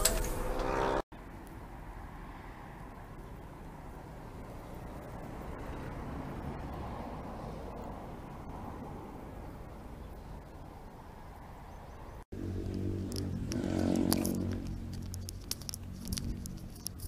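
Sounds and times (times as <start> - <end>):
outdoor background noise: 0.0 - 17.0
vehicle engine hum passing: 0.0 - 17.0.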